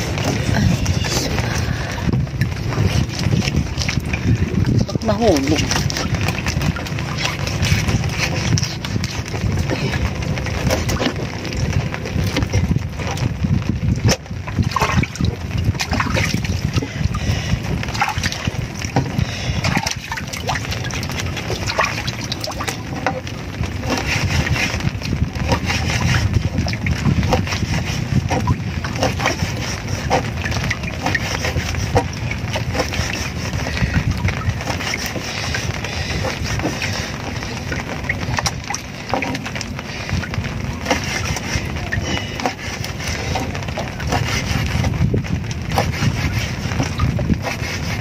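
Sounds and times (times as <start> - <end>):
water lapping against boat hull: 0.0 - 48.0.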